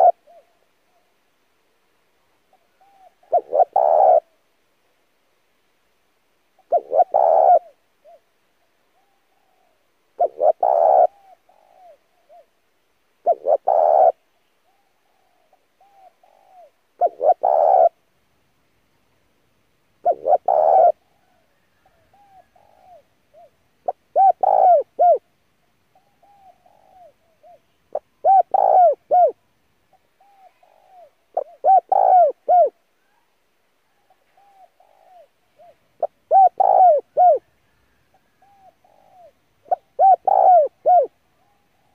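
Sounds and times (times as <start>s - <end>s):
dove cooing: 0.0s - 1.1s, 2.5s - 4.4s, 6.6s - 8.3s, 9.0s - 12.6s, 13.2s - 18.0s, 20.0s - 25.3s, 25.9s - 33.2s, 33.9s - 41.9s.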